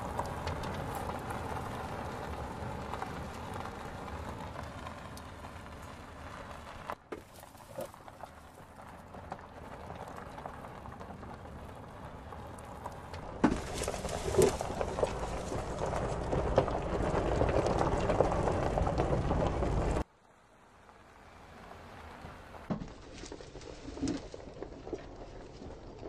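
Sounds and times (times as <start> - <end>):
car tyres rumbling over rough surface: 0.0 - 20.1, 21.3 - 26.0.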